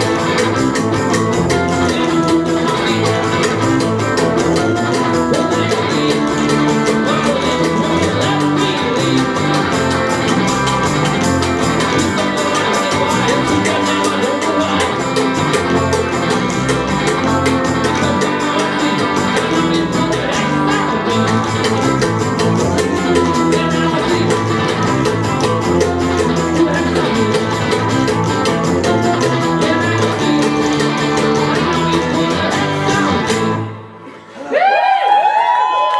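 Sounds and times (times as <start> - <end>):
strummed guitars: 0.0 - 34.4
live band playing punk song: 0.0 - 34.7.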